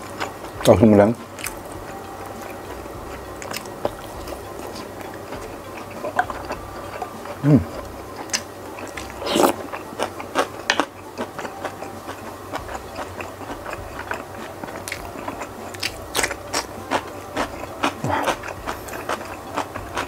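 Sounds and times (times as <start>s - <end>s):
man chewing: 0.0s - 20.0s.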